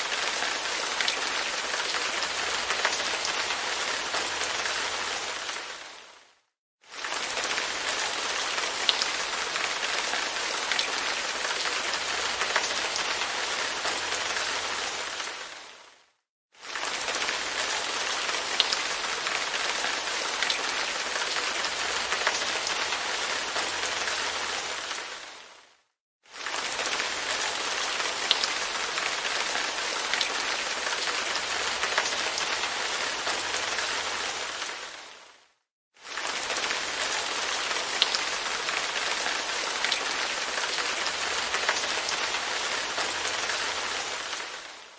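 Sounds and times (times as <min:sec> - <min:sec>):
light rain on a window pane: 0:00.1 - 0:16.0, 0:16.6 - 0:44.9.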